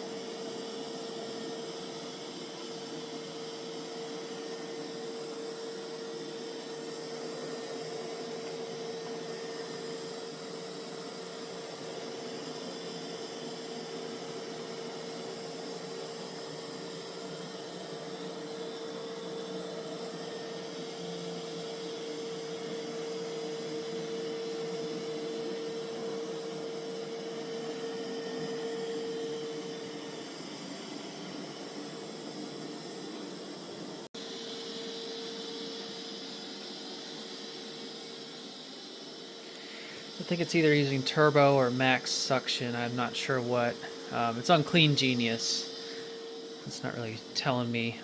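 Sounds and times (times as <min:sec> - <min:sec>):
robot vacuum suction motor: 0:00.0 - 0:48.0.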